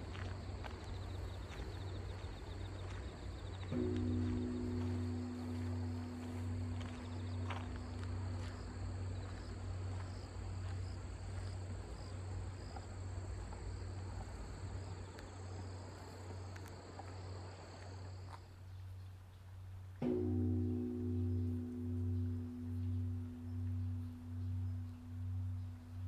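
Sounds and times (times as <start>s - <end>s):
deep temple bell hum: 0.0s - 18.7s, 20.0s - 26.0s
crickets chirping: 0.0s - 26.0s.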